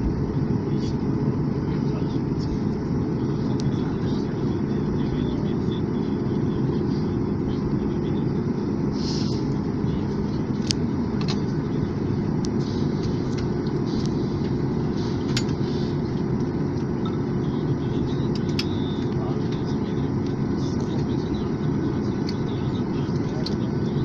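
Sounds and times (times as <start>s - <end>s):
airplane cabin engine drone: 0.0s - 24.0s.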